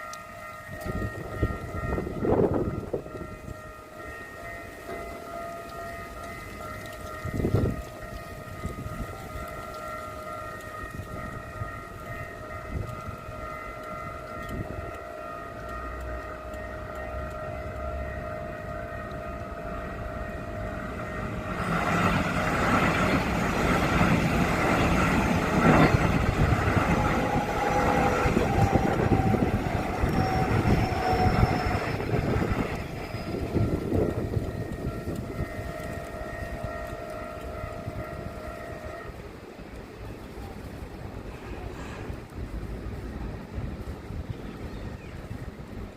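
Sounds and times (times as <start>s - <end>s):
level crossing alarm tone: 0.0s - 39.3s
train passing rumble: 0.0s - 45.9s.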